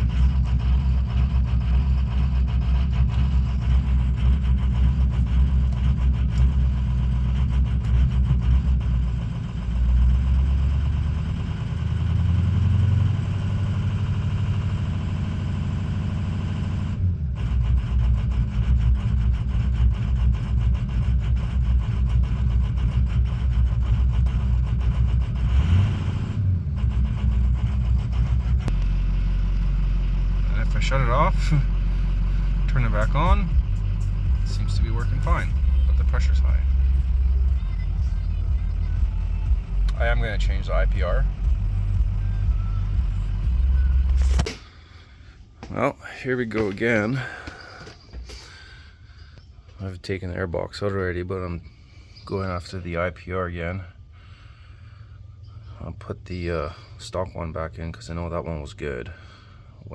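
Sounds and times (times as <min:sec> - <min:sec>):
diesel engine idling roughly: 0:00.0 - 0:59.9.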